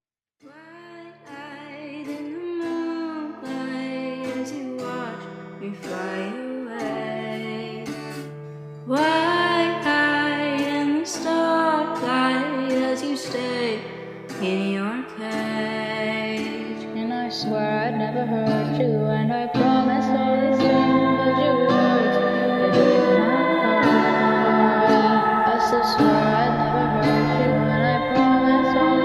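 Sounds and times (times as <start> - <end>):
guitar accompaniment: 0.4 - 29.0
woman singing: 0.4 - 29.0.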